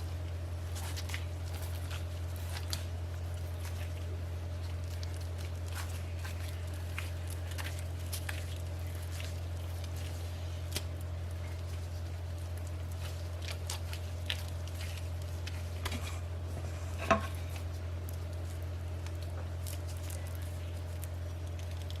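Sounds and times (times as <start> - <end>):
steady low hum: 0.0 - 22.0
wet squishing of meat mixture: 0.0 - 22.0.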